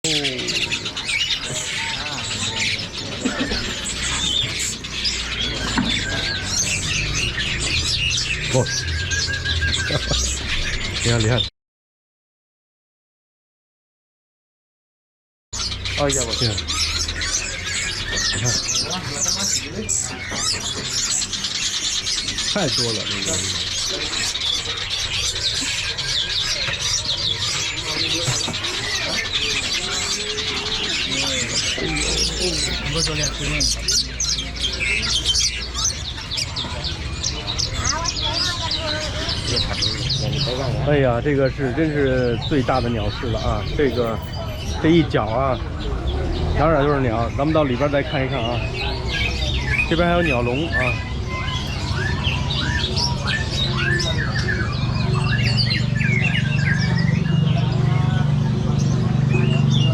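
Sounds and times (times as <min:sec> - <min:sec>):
birds chirping in chorus: 0:00.0 - 0:11.5, 0:15.6 - 0:59.9
low background murmur: 0:00.0 - 0:11.5, 0:15.6 - 0:59.9.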